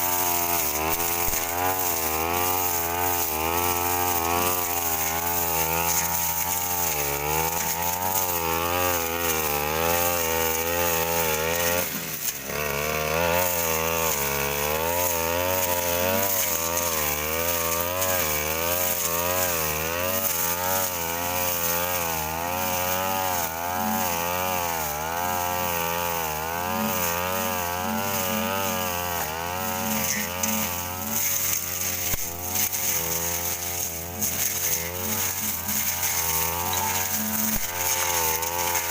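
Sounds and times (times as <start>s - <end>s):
brush cutter running at high revs: 0.0s - 38.9s.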